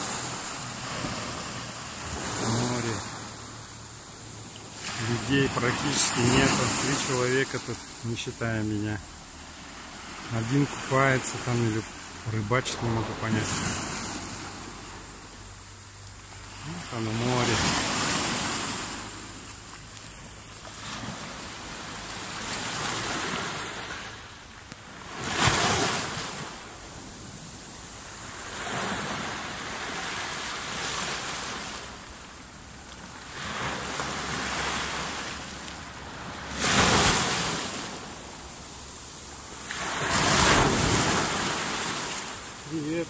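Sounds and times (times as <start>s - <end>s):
waves breaking on pebbly shore: 0.0s - 15.3s, 16.1s - 32.2s, 33.0s - 43.0s.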